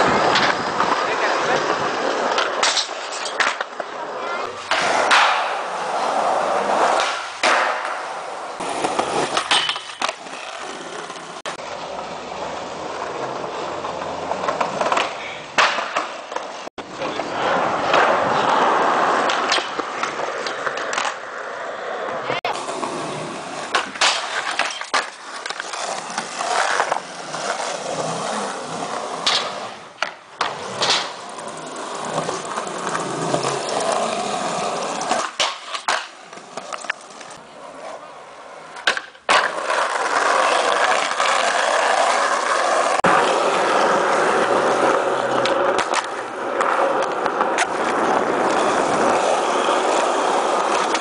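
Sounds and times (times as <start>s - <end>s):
skateboard clacks: 0.0s - 21.4s, 22.0s - 51.0s
skateboard wheels rolling on concrete: 0.0s - 51.0s.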